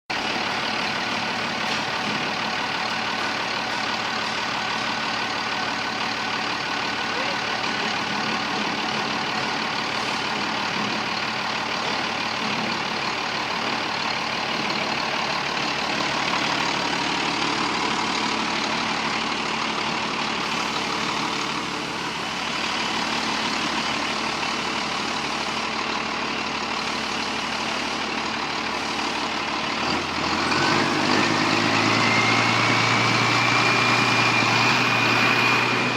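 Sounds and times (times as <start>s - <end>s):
diesel engine running: 0.1s - 35.9s.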